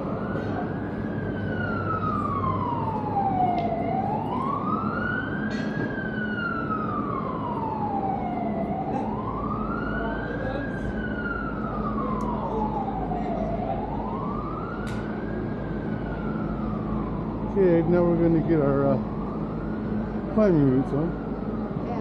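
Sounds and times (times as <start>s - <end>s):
emergency siren wailing: 0.0s - 22.0s
street traffic: 0.0s - 22.0s.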